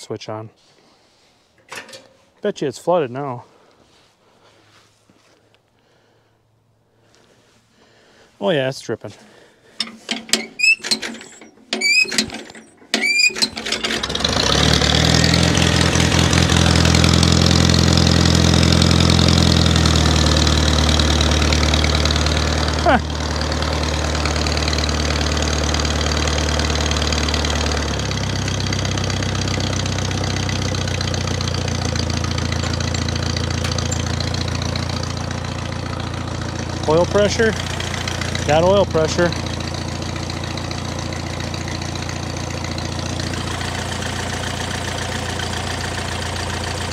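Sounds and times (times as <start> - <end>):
engine cranking and clanking: 1.6 - 2.2, 9.2 - 46.9
tractor engine idling: 8.5 - 46.9.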